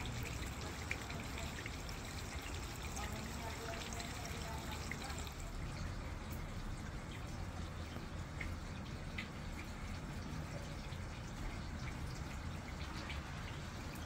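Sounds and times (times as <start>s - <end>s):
water dripping and trickling: 0.0s - 14.0s.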